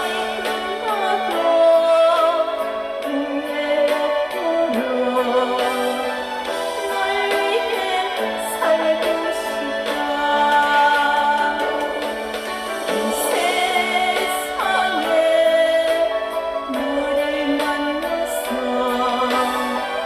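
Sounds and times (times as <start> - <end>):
instrumental backing track: 0.0 - 20.0
woman singing: 0.0 - 20.0.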